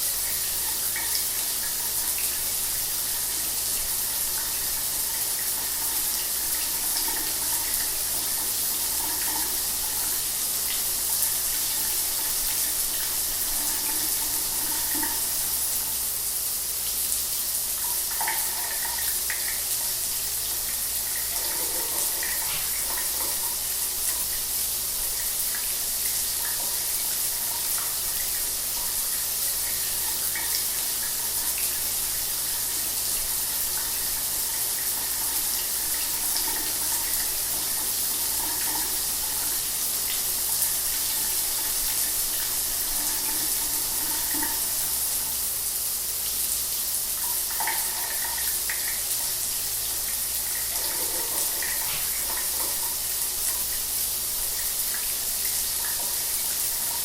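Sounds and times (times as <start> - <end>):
shower water running: 0.0 - 57.0.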